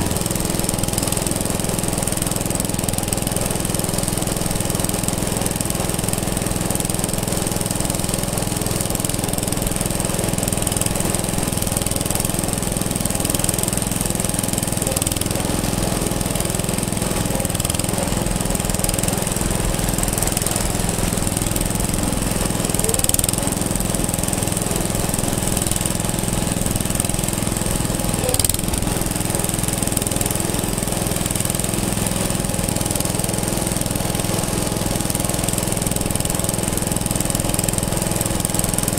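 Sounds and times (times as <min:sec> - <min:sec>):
antique engine running: 0:00.0 - 0:38.9.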